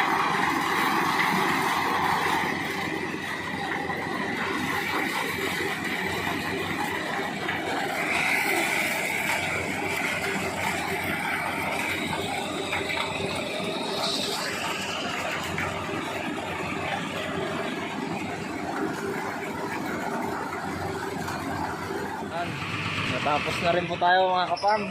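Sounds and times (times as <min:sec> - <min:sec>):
engine running with whine: 0:00.0 - 0:24.9.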